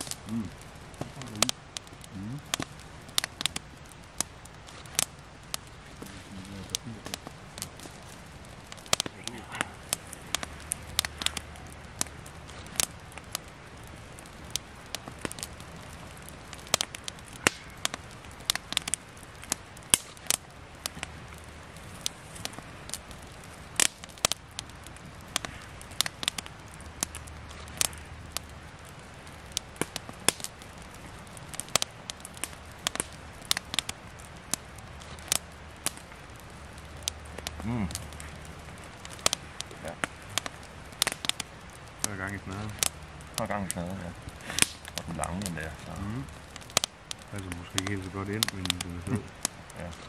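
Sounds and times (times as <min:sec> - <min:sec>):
campfire crackling: 0:00.0 - 0:50.0
faint steady hiss: 0:00.0 - 0:50.0.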